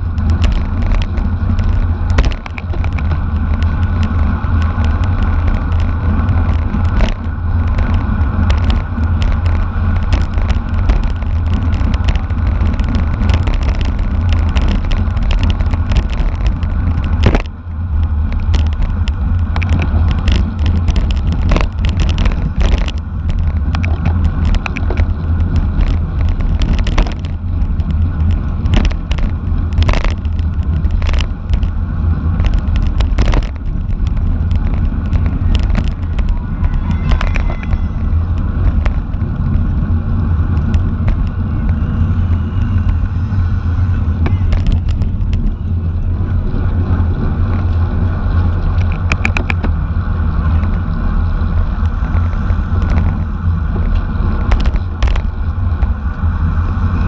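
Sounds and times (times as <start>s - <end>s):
bicycle clicks and rattles: 0.0s - 57.0s
wind and road noise: 0.0s - 57.0s.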